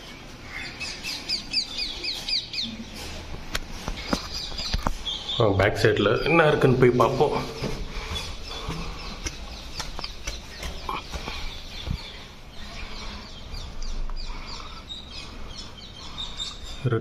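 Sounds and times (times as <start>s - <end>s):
animals chirping and squeaking: 0.0s - 17.0s.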